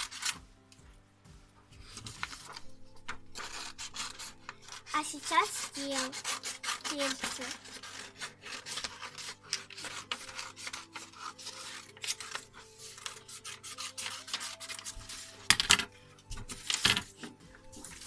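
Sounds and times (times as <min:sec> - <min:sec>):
paper rustling: 0:00.0 - 0:00.4, 0:01.7 - 0:18.0
scissors snipping paper: 0:00.0 - 0:00.4, 0:01.9 - 0:18.0.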